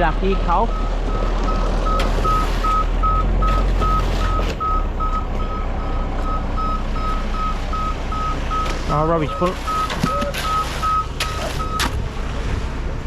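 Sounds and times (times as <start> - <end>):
reversing alarm beeping: 0.2 - 11.8.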